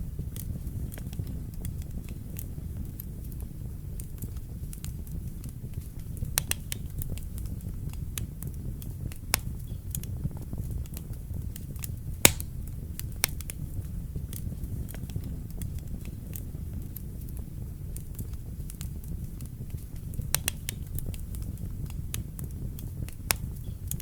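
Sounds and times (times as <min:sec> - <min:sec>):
wood fire burning: 0:00.0 - 0:24.0.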